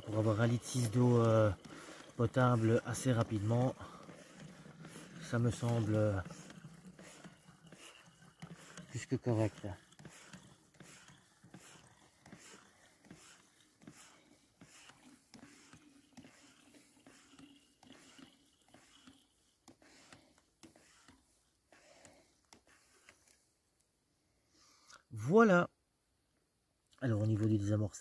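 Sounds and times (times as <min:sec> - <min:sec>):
hand-pump water filter strokes: 0:00.0 - 0:23.8, 0:27.0 - 0:28.0.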